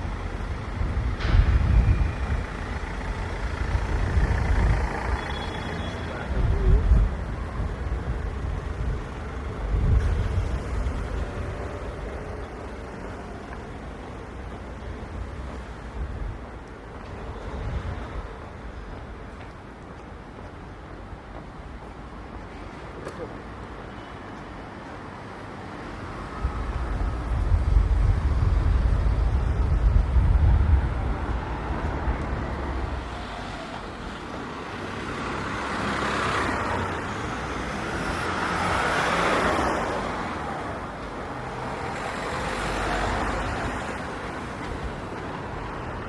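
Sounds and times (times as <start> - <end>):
cars passing: 0.0 - 46.0.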